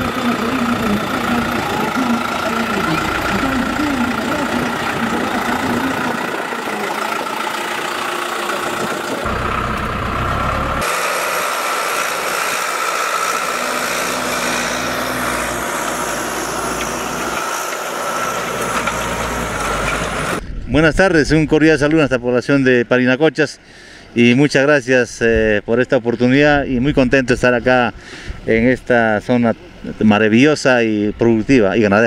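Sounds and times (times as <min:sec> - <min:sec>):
tractor diesel engine running: 0:00.0 - 0:20.5, 0:21.8 - 0:31.7.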